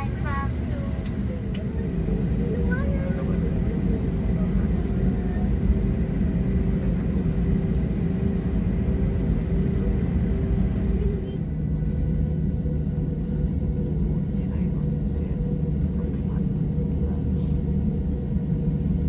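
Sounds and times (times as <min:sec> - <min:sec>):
airplane cabin jet engine roar: 0:00.0 - 0:19.0.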